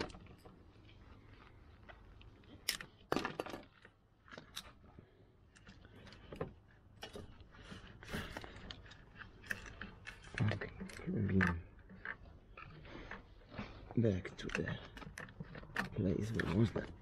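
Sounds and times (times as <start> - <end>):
clicks and rustles of wiring: 0.0 - 17.0.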